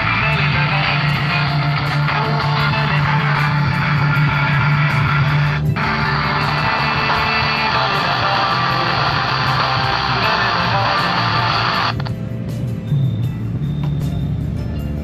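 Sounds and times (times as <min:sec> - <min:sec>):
guitar music through speaker: 0:00.0 - 0:12.8
low hum: 0:00.0 - 0:14.8.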